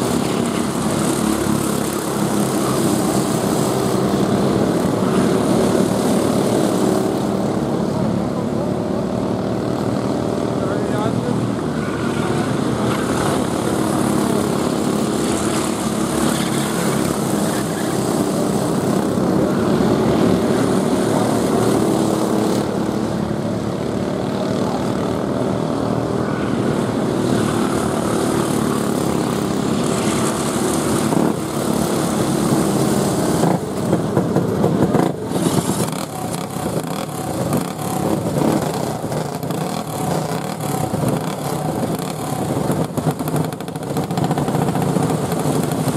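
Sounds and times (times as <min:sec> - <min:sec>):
racing kart engines: 0:00.0 - 0:45.9.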